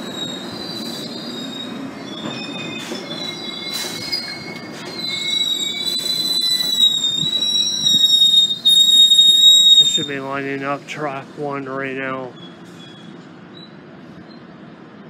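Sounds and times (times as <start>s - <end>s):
steel wheels squealing: 0.0s - 14.6s.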